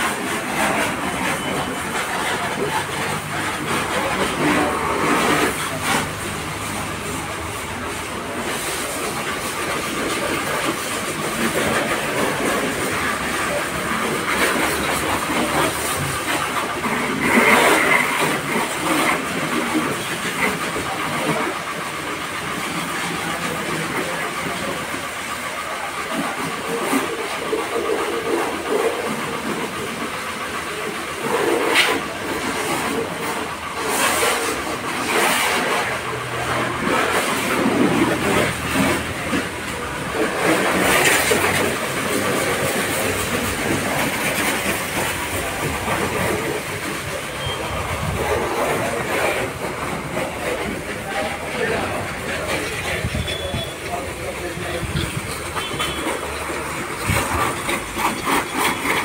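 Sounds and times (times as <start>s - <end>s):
hose spraying water on car: 0.0s - 59.0s.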